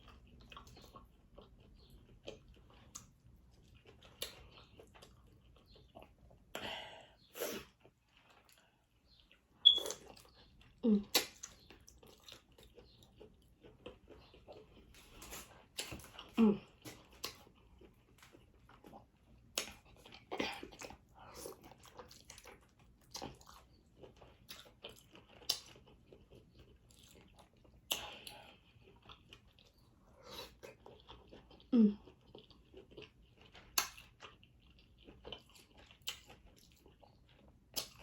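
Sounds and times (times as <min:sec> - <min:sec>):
wet chewing and lip smacks: 0:00.0 - 0:06.7, 0:07.6 - 0:38.0.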